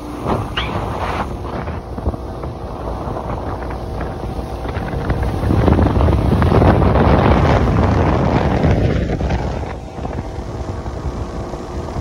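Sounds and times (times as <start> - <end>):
motorboat engine: 0.0 - 12.0
wind rushing over microphone: 0.0 - 12.0.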